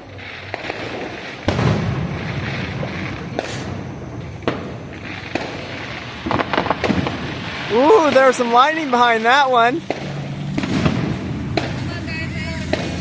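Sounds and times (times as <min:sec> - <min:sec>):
firework boom with rumbling echo: 0:00.0 - 0:13.0
sharp firework bangs: 0:00.0 - 0:13.0.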